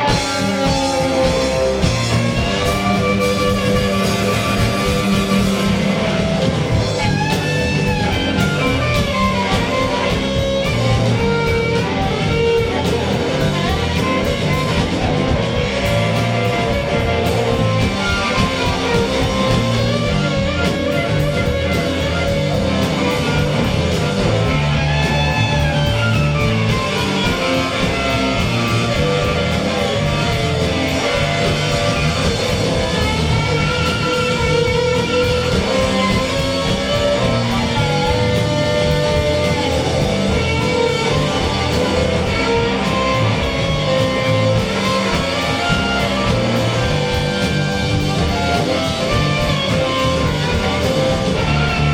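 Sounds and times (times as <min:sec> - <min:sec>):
bending electric guitar lines: 0:00.0 - 0:51.9
live rock band playing: 0:00.0 - 0:51.9.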